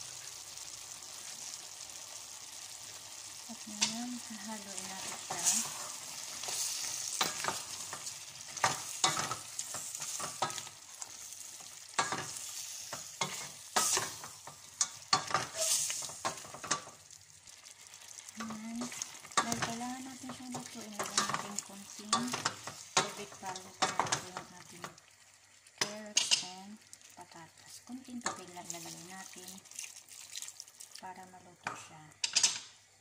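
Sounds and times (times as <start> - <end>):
food sizzling: 0.0 - 33.0.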